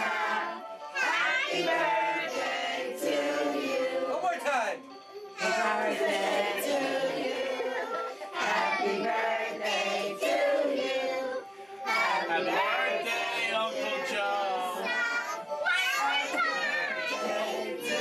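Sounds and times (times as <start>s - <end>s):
group singing in unison: 0.0s - 4.4s, 5.4s - 18.0s.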